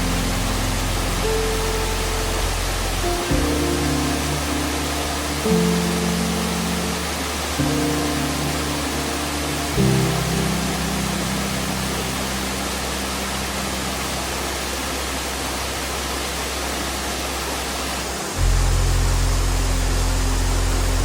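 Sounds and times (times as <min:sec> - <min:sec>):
background music with low notes: 0:00.0 - 0:21.0
waterfall rushing: 0:00.0 - 0:21.0.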